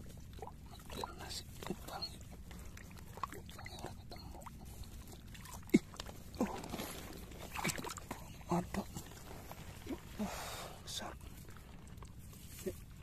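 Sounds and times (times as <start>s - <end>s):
muddy water sloshing and squelching: 0.0s - 13.0s.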